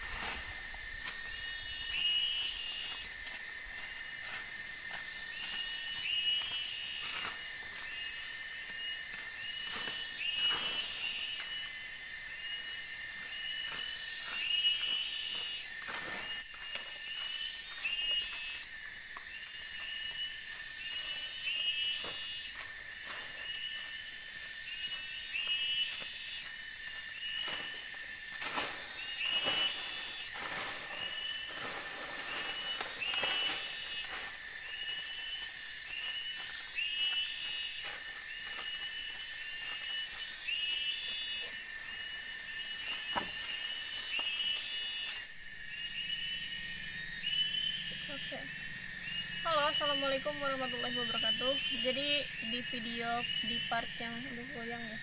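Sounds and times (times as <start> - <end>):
insect buzzing hiss: 0.0 - 55.0.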